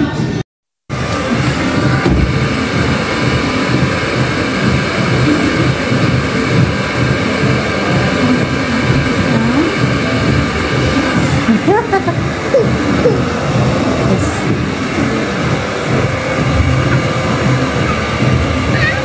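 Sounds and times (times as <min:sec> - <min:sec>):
hair dryer running: 0:00.9 - 0:19.0.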